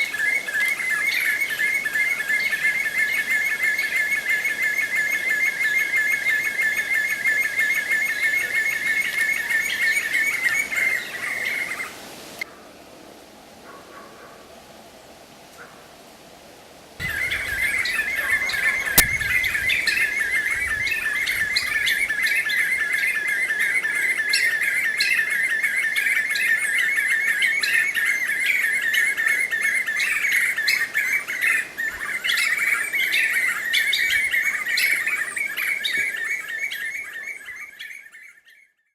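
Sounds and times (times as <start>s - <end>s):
birds calling in chorus: 0.0s - 12.5s, 17.0s - 38.8s.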